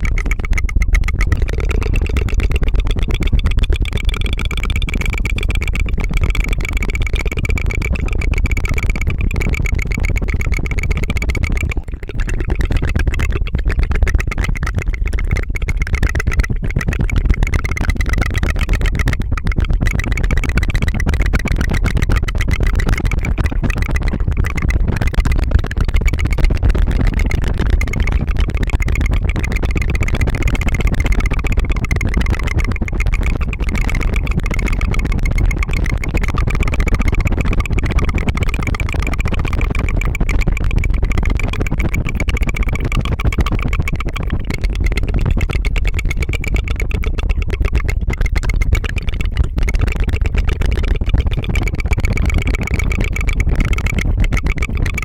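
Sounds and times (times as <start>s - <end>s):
rolled tongue trill: 0.0s - 55.0s.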